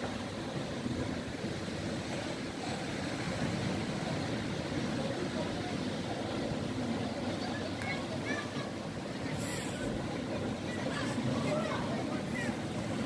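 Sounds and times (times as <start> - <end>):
choppy sea: 0.0 - 13.0
waves breaking against seawall: 0.0 - 13.0
wind rumbling on microphone: 0.0 - 13.0.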